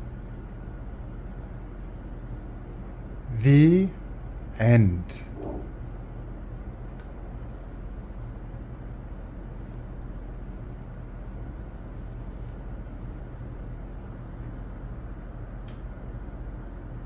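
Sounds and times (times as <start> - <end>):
low rumble with hum: 0.0 - 17.0.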